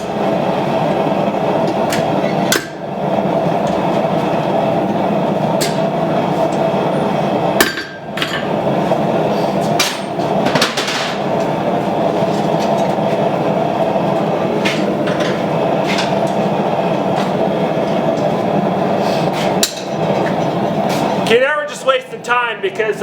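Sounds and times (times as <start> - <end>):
forge roaring: 0.0 - 22.1.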